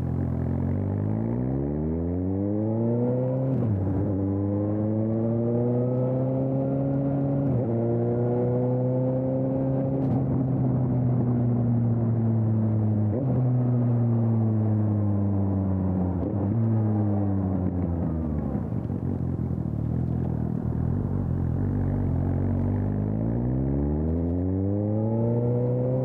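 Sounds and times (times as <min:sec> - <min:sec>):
motorcycle engine while riding: 0:00.0 - 0:26.0.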